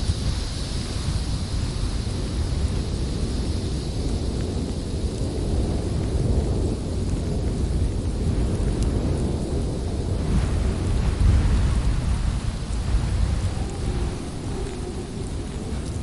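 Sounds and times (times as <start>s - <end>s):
high wind hiss: 0.0s - 16.0s
strong wind rumbling: 0.0s - 16.0s.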